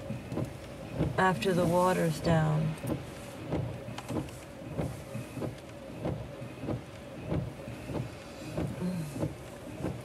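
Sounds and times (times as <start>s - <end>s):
car engine idling: 0.0s - 10.0s
windshield wipers sweeping: 0.0s - 10.0s.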